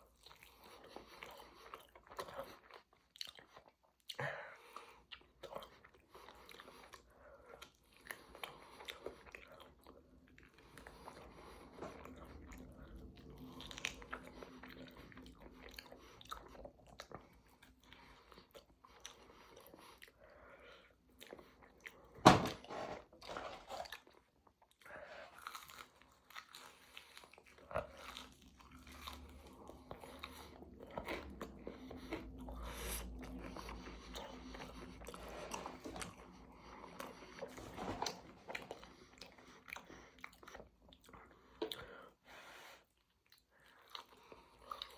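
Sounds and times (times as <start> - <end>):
chewing chicken wings: 0.0 - 20.2, 23.7 - 42.1, 42.9 - 44.9.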